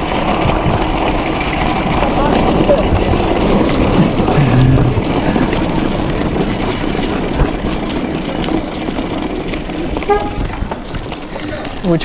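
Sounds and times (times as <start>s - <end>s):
bicycle rattling over cobblestones: 0.0s - 12.0s.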